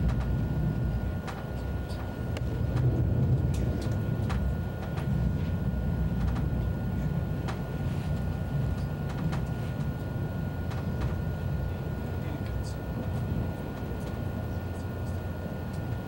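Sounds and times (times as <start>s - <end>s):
train rumbling from inside: 0.0s - 16.0s.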